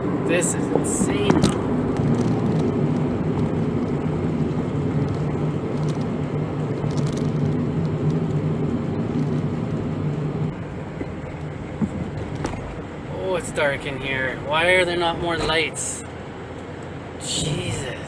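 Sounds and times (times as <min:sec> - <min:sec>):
van engine and tyre hum: 0:00.0 - 0:18.0.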